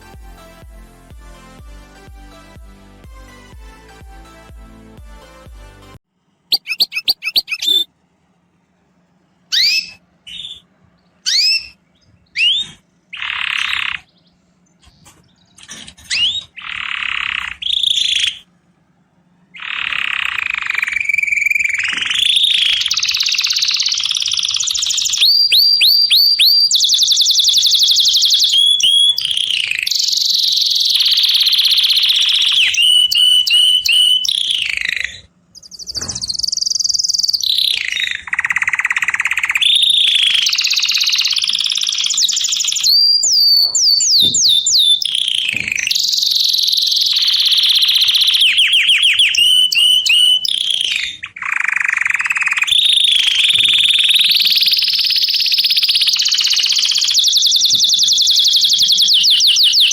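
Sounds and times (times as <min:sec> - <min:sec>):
songbird singing: 0:06.5 - 0:59.9.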